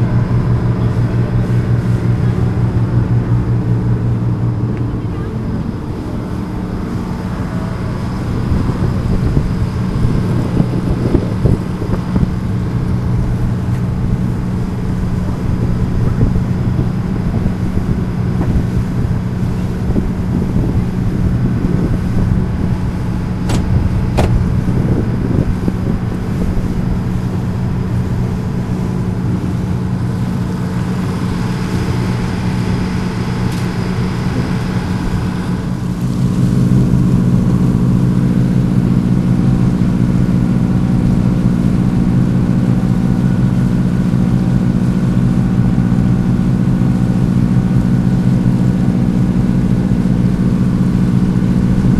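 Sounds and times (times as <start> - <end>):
ferry engine humming: 0.0 - 51.9
rush of water and air: 0.0 - 51.9.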